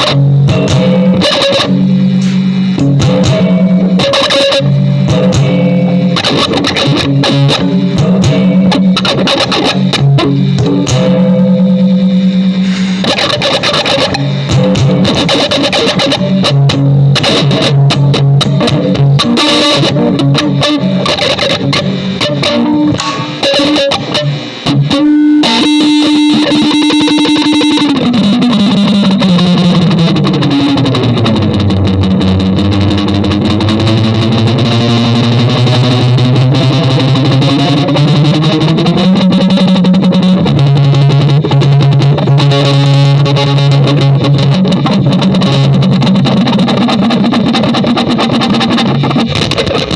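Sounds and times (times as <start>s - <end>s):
electric guitar sustained notes: 0.0s - 49.9s.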